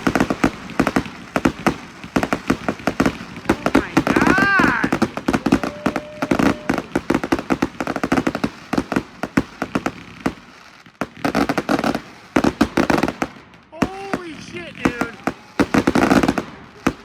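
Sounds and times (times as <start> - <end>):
firework cake crackling reports: 0.0 - 17.0.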